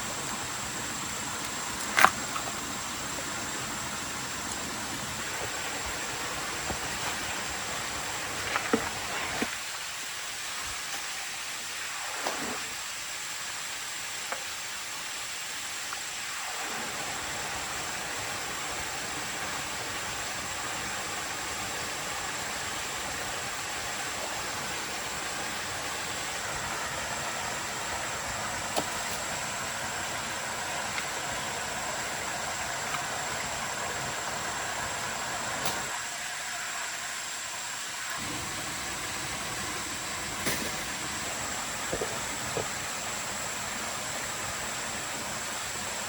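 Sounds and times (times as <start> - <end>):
rushing water hiss: 0.0 - 46.0.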